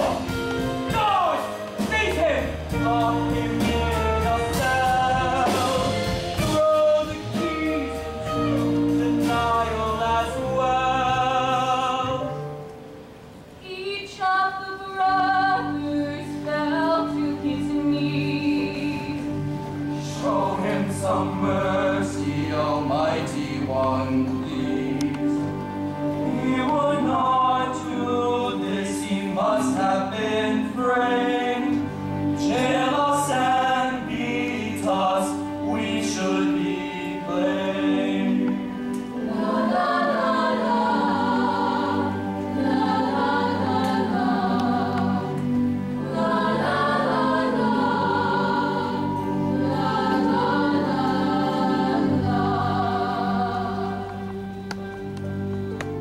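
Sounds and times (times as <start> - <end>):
instrumental accompaniment: 0.0 - 13.6, 14.9 - 56.0
choir singing: 2.6 - 12.6, 13.7 - 56.0.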